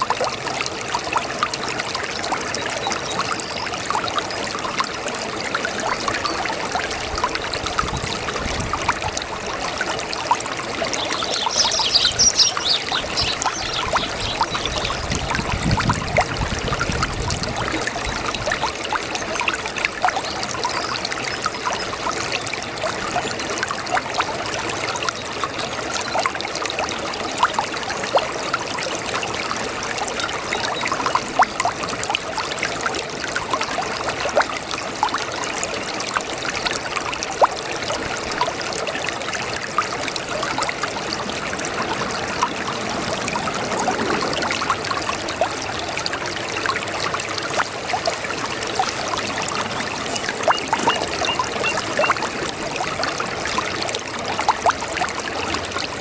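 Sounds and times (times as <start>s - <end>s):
brook water trickling over stones: 0.0s - 56.0s.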